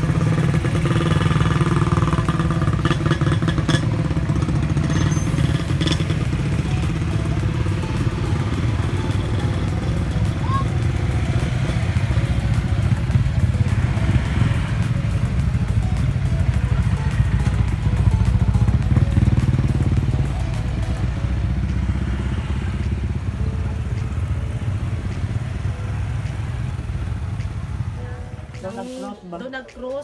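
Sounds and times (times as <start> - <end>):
motorcycles and scooters riding past: 0.0 - 29.5.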